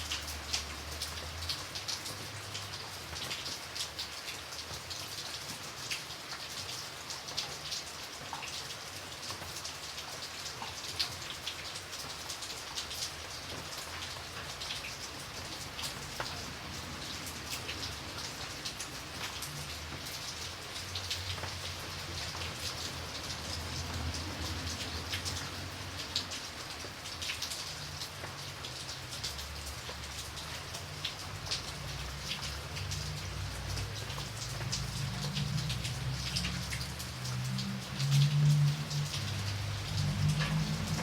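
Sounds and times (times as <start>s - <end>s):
rain drops pattering: 0.0s - 41.0s.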